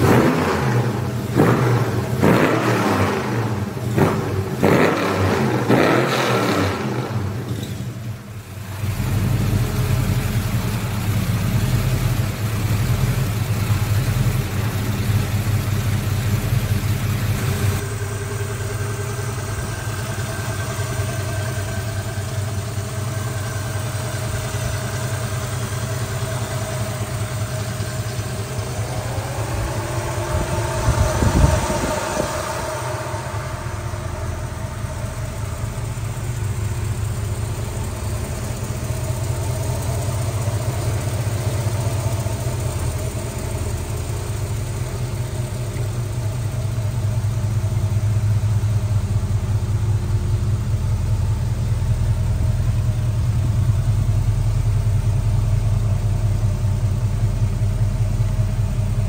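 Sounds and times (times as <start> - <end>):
engine idling and revving: 0.0 - 59.0.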